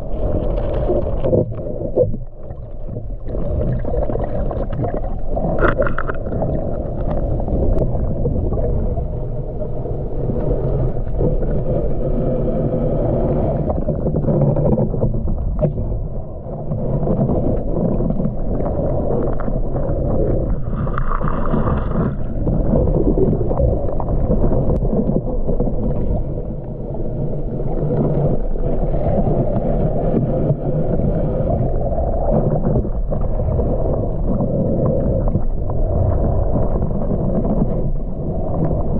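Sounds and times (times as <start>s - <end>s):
underwater rumble and swish: 0.0s - 38.9s.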